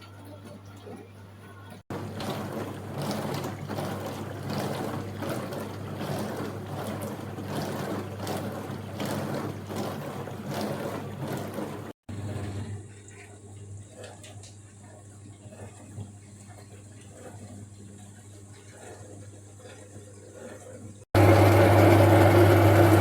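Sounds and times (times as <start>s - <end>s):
water spraying and sloshing: 0.0s - 21.0s
dishwasher pump humming: 0.0s - 23.0s.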